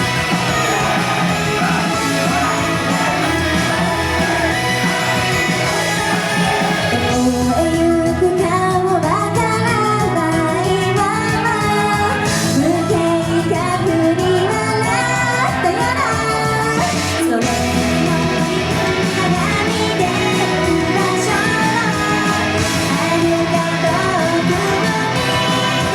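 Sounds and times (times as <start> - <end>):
female voices singing: 0.0 - 25.9
pop-rock backing track: 0.0 - 25.9.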